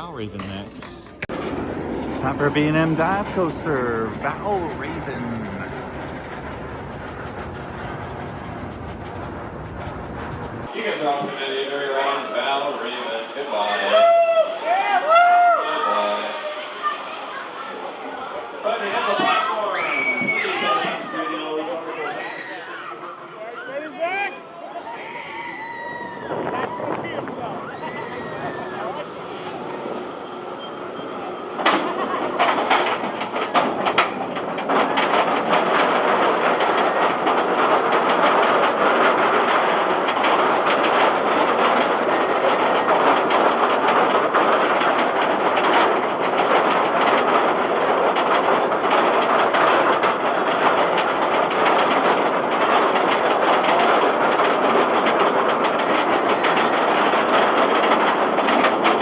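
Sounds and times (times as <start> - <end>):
roller coaster wheels rattling on rail: 0.0 - 59.0.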